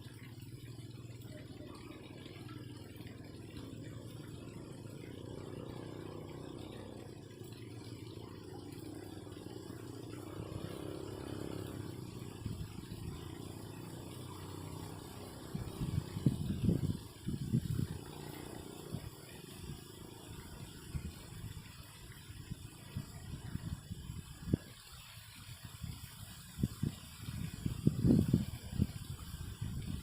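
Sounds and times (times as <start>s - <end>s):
low rumble of flowing water: 0.0s - 30.0s.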